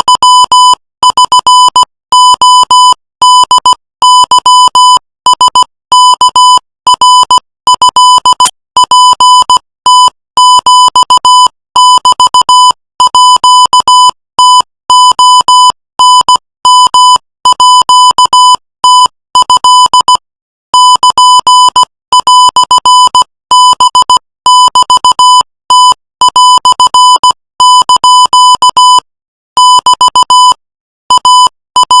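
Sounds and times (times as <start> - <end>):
morse code beeps: 0.0 - 32.0.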